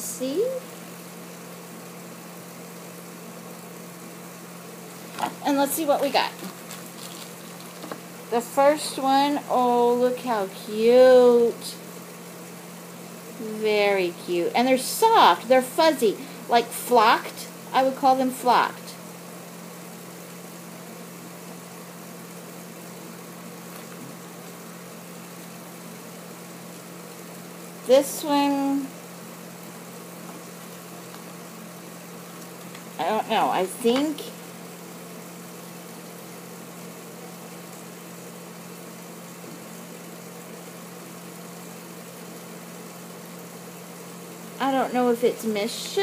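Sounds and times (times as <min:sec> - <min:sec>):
even hiss: 0:00.0 - 0:46.0.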